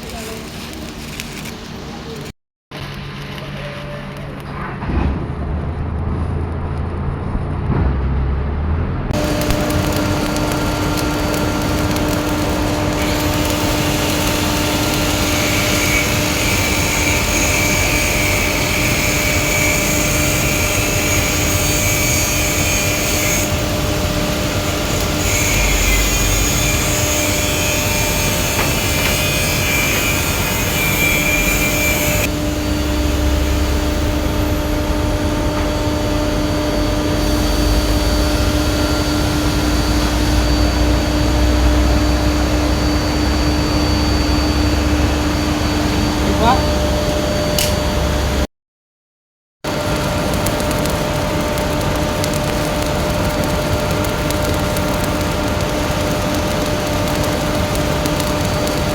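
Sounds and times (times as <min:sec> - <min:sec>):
welding arc crackling and hissing: 0:00.0 - 0:02.3, 0:09.2 - 0:46.6, 0:49.7 - 0:58.9
machine drone with hum: 0:00.0 - 0:48.5, 0:49.7 - 0:58.9.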